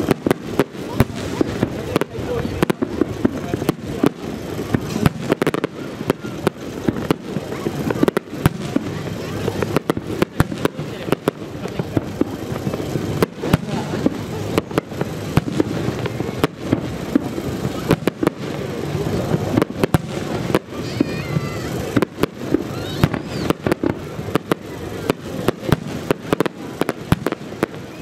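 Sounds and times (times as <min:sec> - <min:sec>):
crowd murmur: 0:00.0 - 0:28.0
fireworks bangs and crackles: 0:00.0 - 0:28.0.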